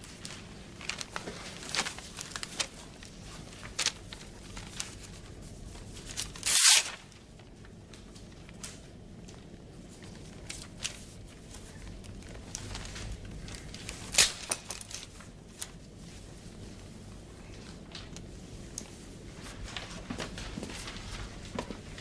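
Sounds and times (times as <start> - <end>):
paper rustling: 0.0 - 22.0.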